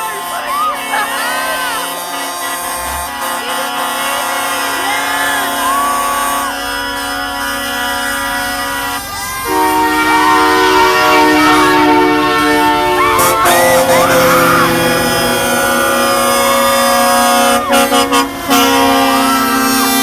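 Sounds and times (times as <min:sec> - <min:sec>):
truck air horns blowing chords: 0:00.0 - 0:20.0.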